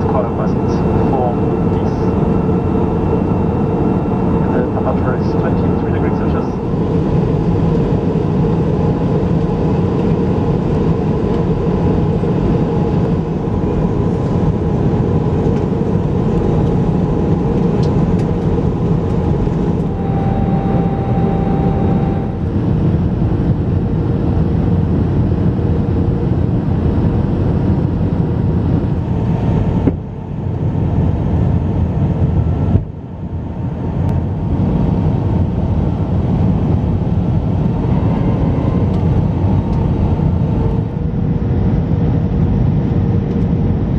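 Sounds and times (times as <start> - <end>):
faint hum tones: 0.0 - 43.9
jet airliner cabin noise: 0.0 - 43.9.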